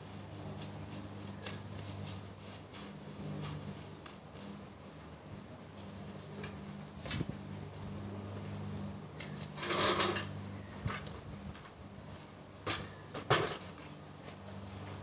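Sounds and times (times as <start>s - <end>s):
rustle: 0.0s - 15.0s.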